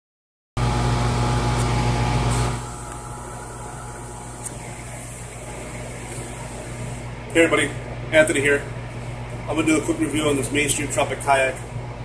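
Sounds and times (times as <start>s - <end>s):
low electrical hum: 0.6s - 12.0s.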